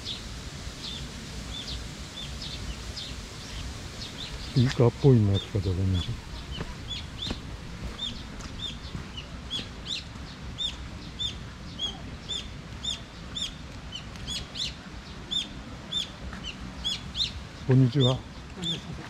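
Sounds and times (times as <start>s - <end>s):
bird chirping: 0.8s - 19.0s.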